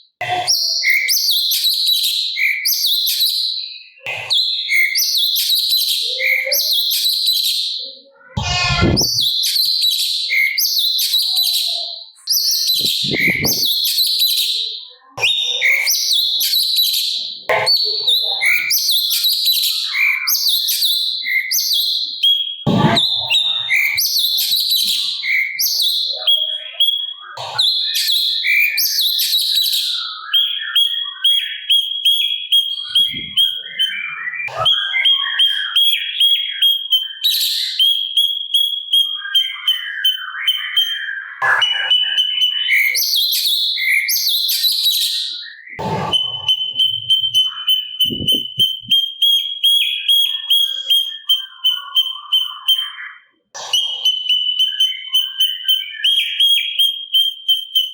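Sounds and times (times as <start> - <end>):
bird singing rapid chattering phrases: 0.3 - 57.9
harsh rasping bird calls: 4.1 - 37.6, 38.6 - 56.9.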